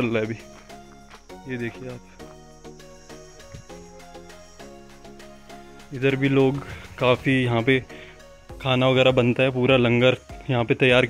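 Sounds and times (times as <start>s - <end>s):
quiet instrumental music: 0.0s - 11.0s.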